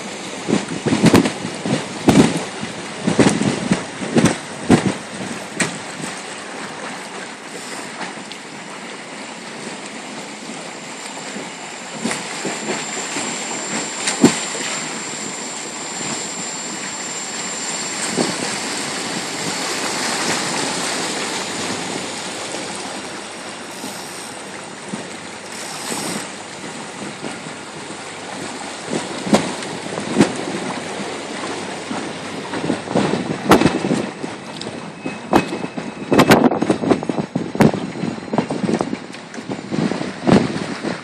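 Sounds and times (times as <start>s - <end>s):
wind on microphone: 0.0s - 8.9s, 9.5s - 41.0s
water rushing past a boat: 0.0s - 41.0s.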